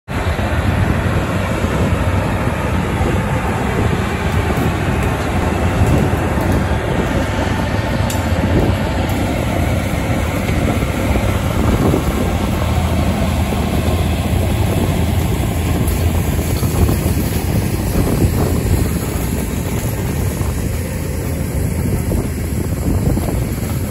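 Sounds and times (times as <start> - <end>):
locomotive engine hum: 0.1 - 23.9
train wheels on rails: 0.1 - 23.9.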